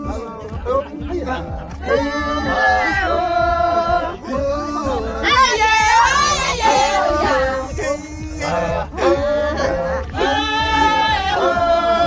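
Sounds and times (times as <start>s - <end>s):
group singing without instruments: 0.0s - 12.0s.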